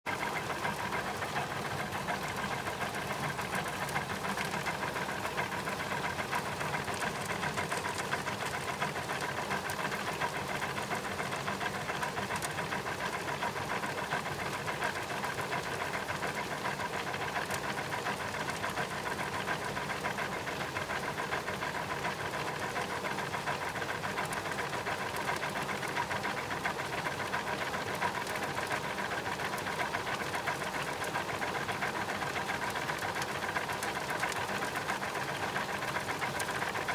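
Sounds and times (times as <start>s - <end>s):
constant mechanical whine: 0.1s - 36.9s
washing machine mechanism chatter: 0.1s - 36.9s.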